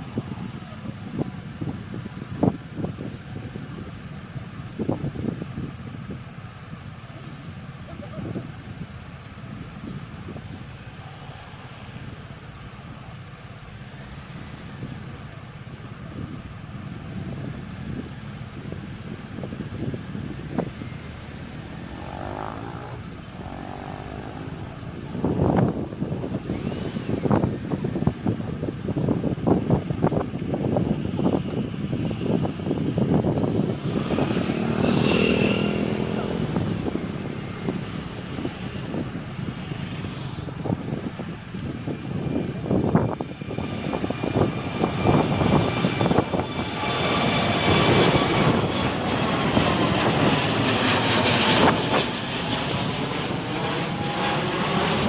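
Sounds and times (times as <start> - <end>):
jet airliner engines roaring: 0.0 - 55.0
outdoor rumble: 0.0 - 55.0.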